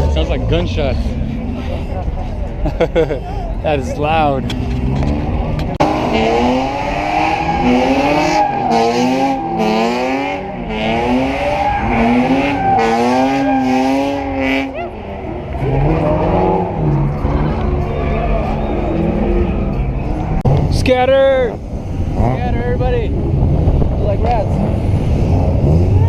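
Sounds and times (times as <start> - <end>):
tires squealing: 3.8 - 26.0
car engine revving: 4.0 - 26.0.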